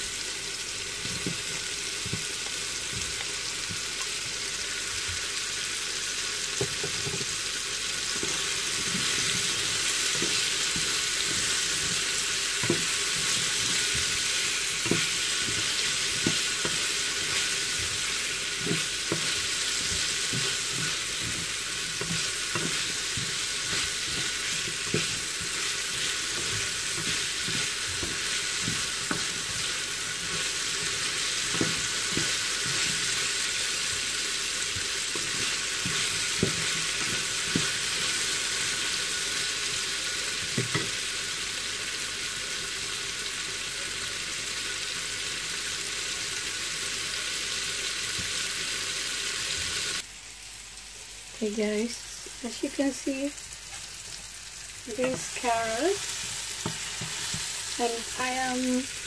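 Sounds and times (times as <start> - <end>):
vegetables sizzling in a frying pan: 0.0 - 59.0.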